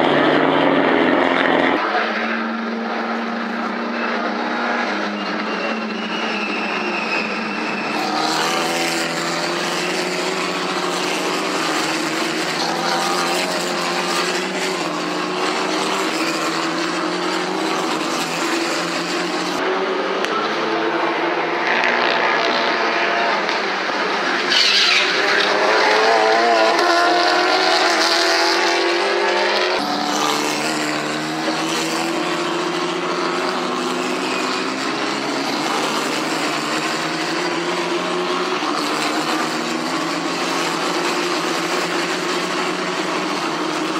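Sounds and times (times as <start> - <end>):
race car engines passing: 0.0 - 43.9.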